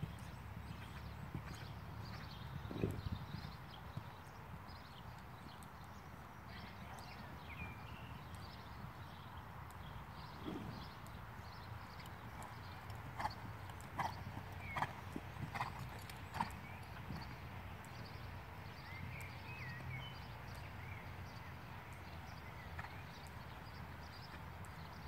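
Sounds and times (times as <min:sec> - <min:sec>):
horse cantering on sand: 0:00.0 - 0:25.0
low outdoor background: 0:00.0 - 0:25.0.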